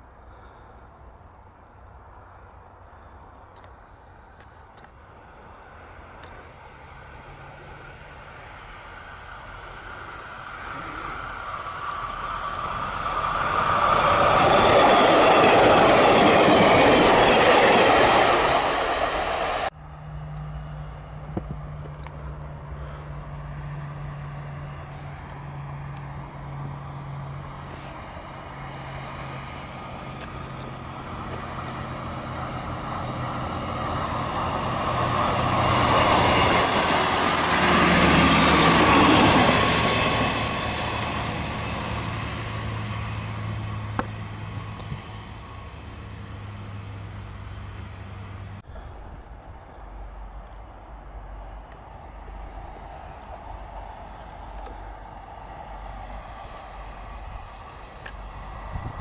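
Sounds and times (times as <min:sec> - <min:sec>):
diesel train humming: 0:00.0 - 0:59.0
diesel train passing: 0:00.0 - 0:59.0.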